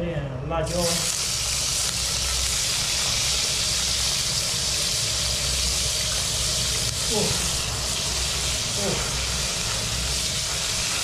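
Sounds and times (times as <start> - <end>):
paste sizzling in hot oil: 0.7 - 11.0.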